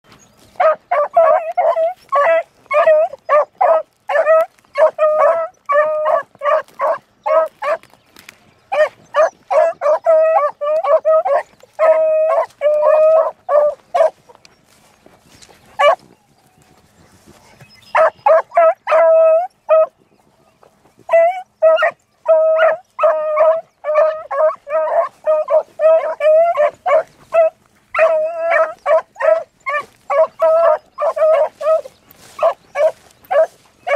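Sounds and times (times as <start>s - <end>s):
beagles baying: 0.1s - 33.9s.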